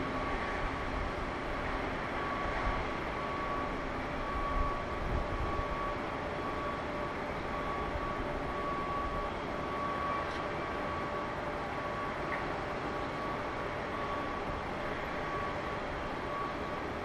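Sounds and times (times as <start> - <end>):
distant machinery and traffic hum: 0.0 - 17.0
faint high whine: 0.0 - 17.0.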